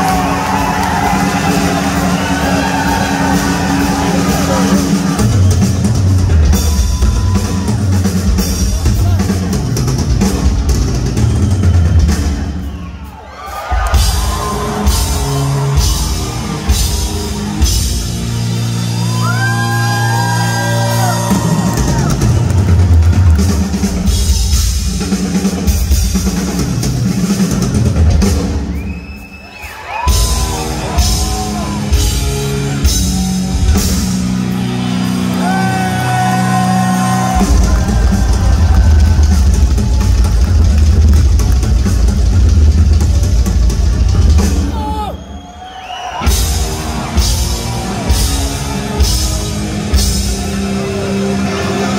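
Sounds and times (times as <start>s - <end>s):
drum solo on drum kit: 0.0s - 28.9s, 30.0s - 45.2s, 46.2s - 51.9s.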